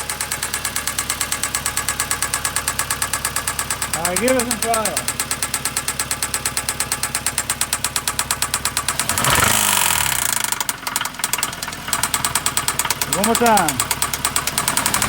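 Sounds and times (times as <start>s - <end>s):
car engine idling with knocking: 0.0s - 15.0s.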